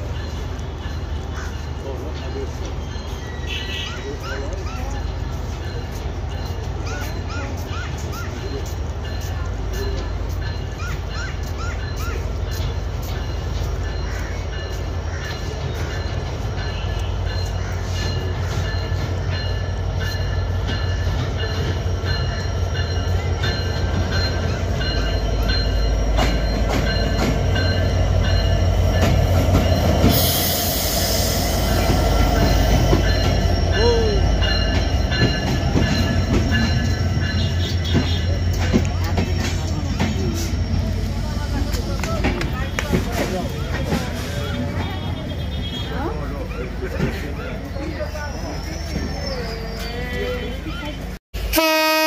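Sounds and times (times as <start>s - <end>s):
low locomotive engine drone: 0.0s - 52.0s
wheels and brakes squealing: 0.2s - 51.2s.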